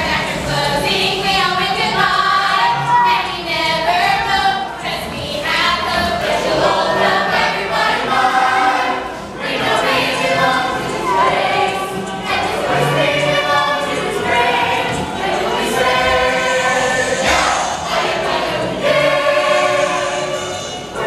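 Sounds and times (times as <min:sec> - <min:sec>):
group singing in chorus: 0:00.0 - 0:21.0
stage song music: 0:00.0 - 0:21.0.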